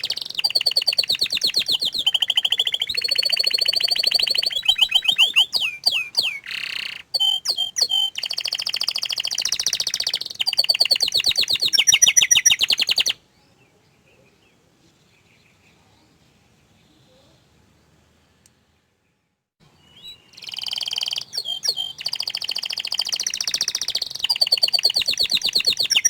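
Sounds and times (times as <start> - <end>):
canary singing trills: 0.0 - 17.4, 19.6 - 26.0.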